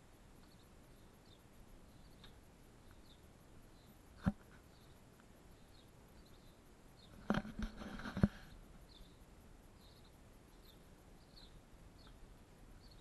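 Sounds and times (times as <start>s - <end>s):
faint bird chirps: 0.4s - 13.0s.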